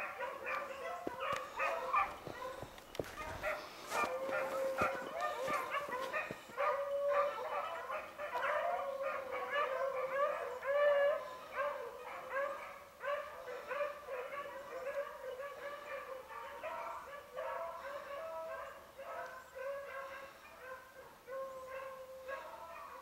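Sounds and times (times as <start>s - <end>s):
dogs baying and howling: 0.0s - 23.0s.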